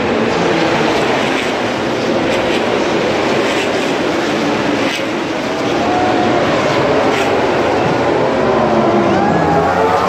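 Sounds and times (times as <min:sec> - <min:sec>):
racing motorcycle engines: 0:00.0 - 0:10.0.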